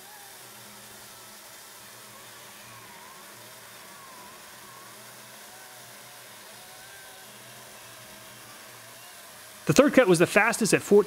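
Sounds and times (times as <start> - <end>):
battery chainsaw cutting wood: 0.0 - 11.0.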